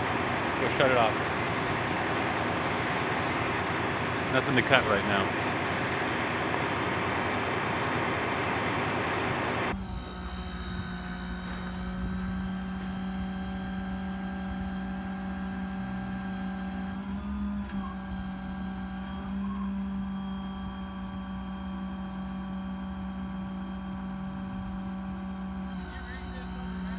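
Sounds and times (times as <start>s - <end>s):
truck engine droning: 0.0s - 26.9s.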